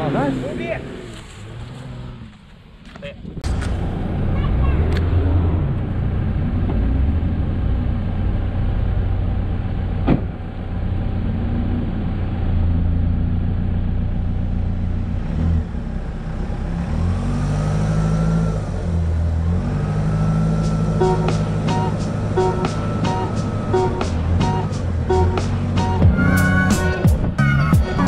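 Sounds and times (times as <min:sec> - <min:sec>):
engine running and revving: 0:00.0 - 0:28.0.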